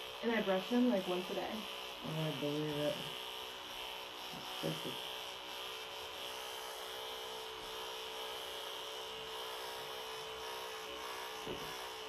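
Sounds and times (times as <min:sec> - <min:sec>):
electric clippers humming: 0:00.0 - 0:12.0.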